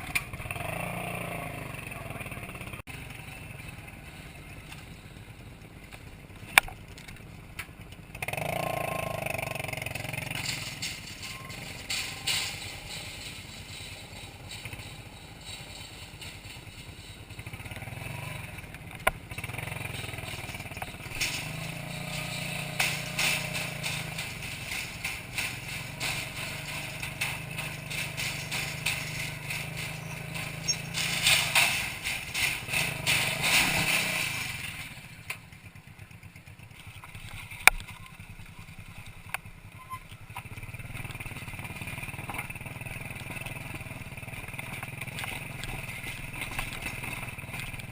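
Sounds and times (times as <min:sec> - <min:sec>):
rattling and clatter: 0:00.0 - 0:47.9
two-stroke motorcycle engine: 0:00.0 - 0:47.9.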